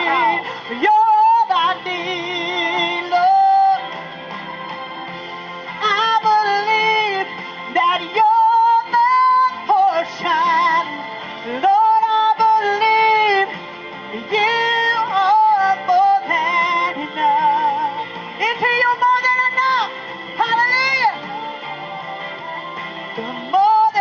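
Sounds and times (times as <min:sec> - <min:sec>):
woman singing gospel: 0:00.0 - 0:04.0, 0:05.8 - 0:22.4, 0:23.1 - 0:24.0.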